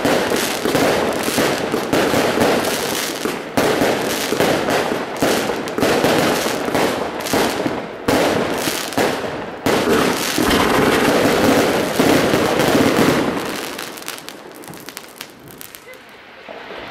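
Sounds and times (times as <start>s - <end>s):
fireworks bangs and crackling: 0.0s - 16.9s.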